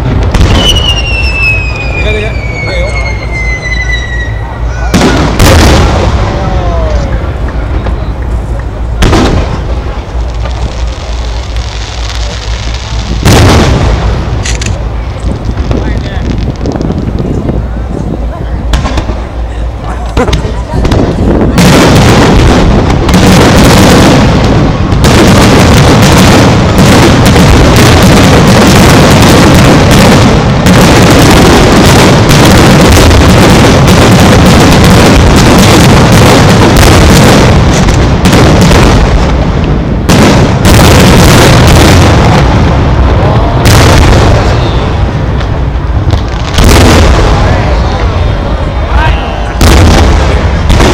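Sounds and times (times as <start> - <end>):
firework shells booming and crackling: 0.0 - 50.9.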